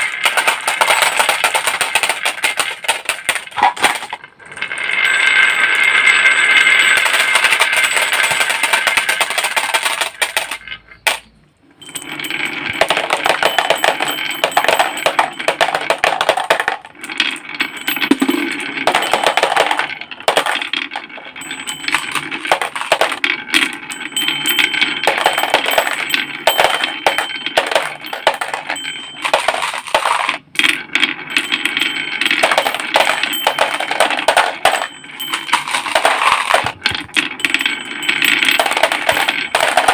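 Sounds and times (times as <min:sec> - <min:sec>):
toy cars clattering: 0:00.0 - 0:39.9.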